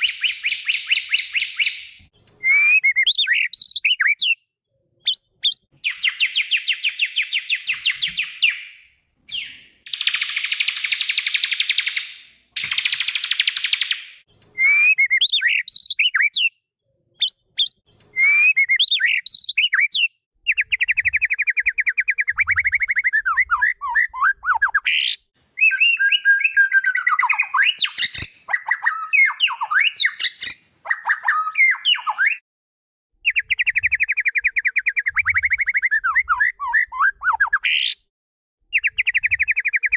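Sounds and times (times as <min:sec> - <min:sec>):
bird song with trills and whistles: 0:00.0 - 0:16.6, 0:17.2 - 0:32.4, 0:33.2 - 0:38.1, 0:38.7 - 0:39.9.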